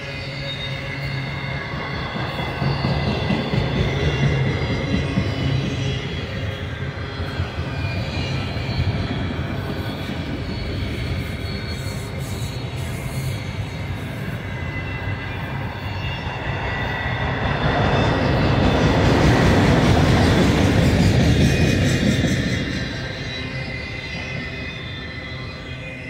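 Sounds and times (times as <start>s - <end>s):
high-pitched wheel squeal: 0.0s - 26.0s
train wheels rumbling on rails: 0.0s - 26.0s.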